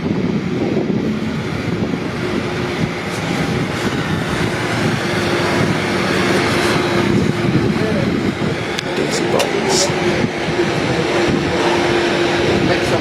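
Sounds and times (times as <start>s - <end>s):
bus engine running: 0.0s - 13.0s
traffic noise: 0.0s - 13.0s.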